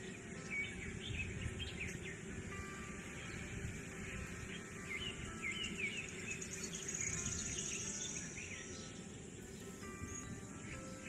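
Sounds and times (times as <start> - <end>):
high insect buzz: 0.0 - 11.0
small birds chirping: 0.0 - 11.0
steady background hiss: 0.0 - 11.0.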